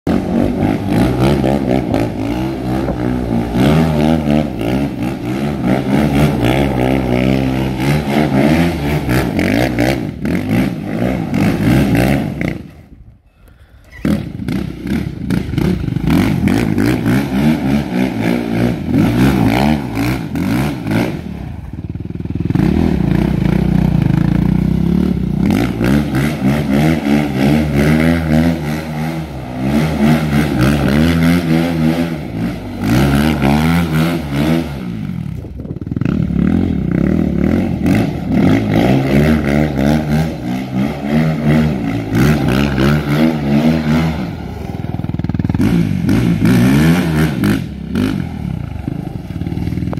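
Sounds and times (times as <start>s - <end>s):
quad engine revving: 0.0s - 49.9s.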